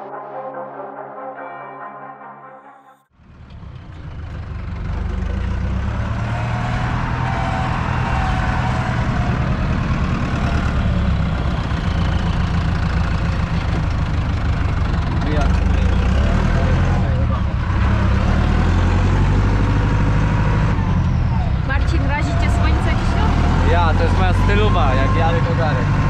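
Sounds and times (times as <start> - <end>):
tractor diesel engine running: 3.2 - 26.0.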